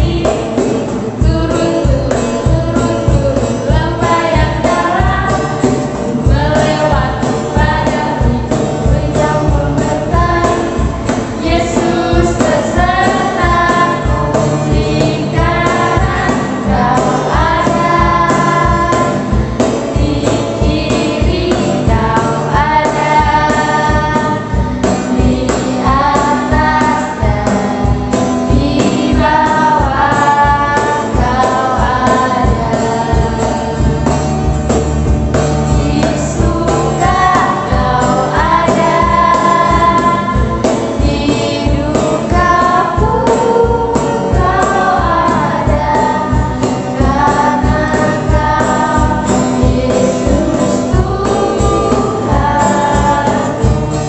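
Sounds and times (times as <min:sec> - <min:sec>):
acoustic guitar strumming: 0:00.0 - 0:54.0
children singing in unison: 0:00.0 - 0:54.0.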